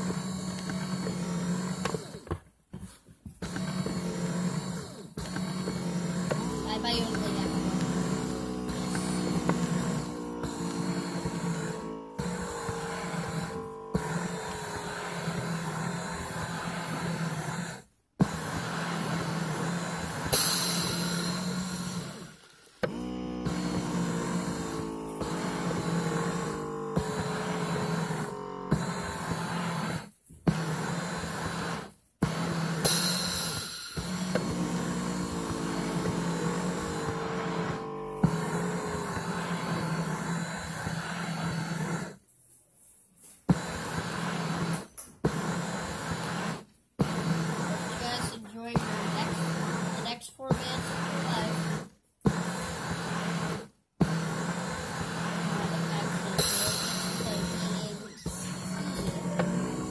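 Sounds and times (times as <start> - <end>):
massager motor whirring: 0.0 - 42.4, 43.2 - 59.9.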